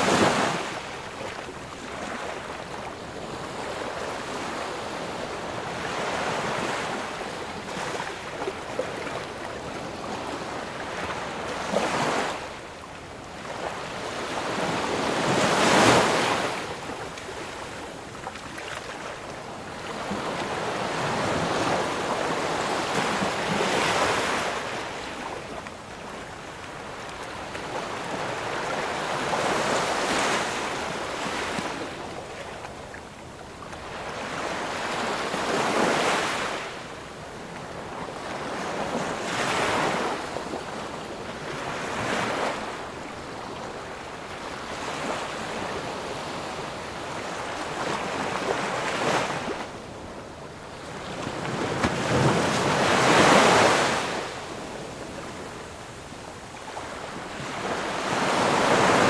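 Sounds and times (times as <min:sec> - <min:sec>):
ocean waves breaking on shore: 0:00.0 - 0:59.0
wind: 0:00.0 - 0:59.0.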